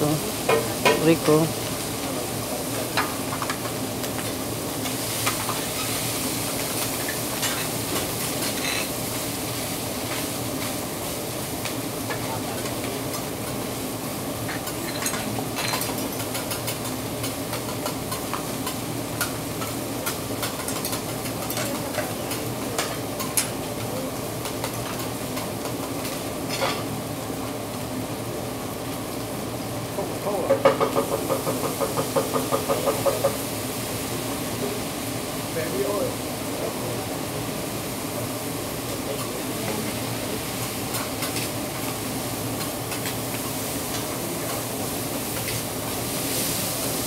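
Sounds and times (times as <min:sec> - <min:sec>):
rice sizzling on griddle: 0:00.0 - 0:47.0.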